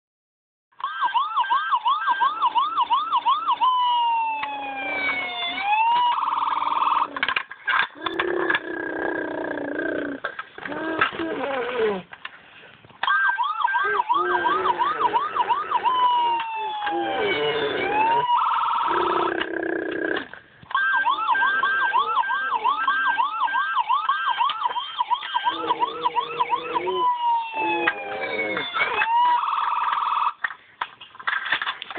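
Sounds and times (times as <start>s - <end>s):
siren yelping and wailing: 0.8s - 12.0s, 13.0s - 30.4s.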